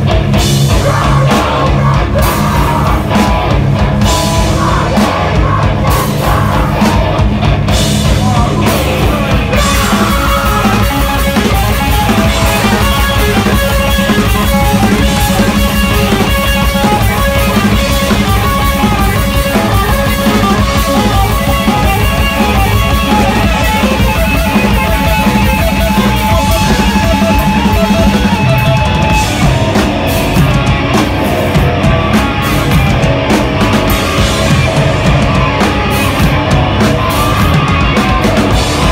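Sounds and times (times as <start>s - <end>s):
metal band playing loud: 0.0s - 38.9s.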